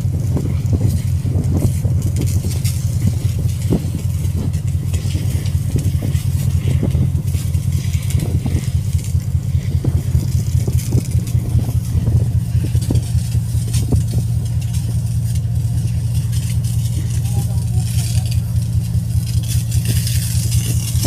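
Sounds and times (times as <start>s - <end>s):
hose water spraying on steel deck: 0.0s - 21.0s
loud low rumble: 0.0s - 21.0s.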